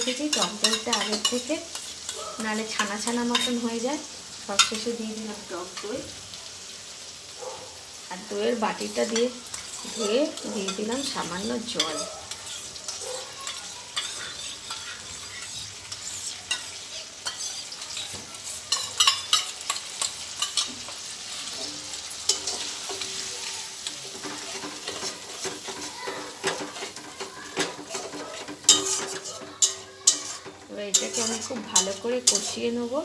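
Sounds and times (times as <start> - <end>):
spatula scraping and tapping pan: 0.0 - 3.8, 4.5 - 5.0, 8.7 - 33.0
food sizzling in hot oil: 0.0 - 33.0.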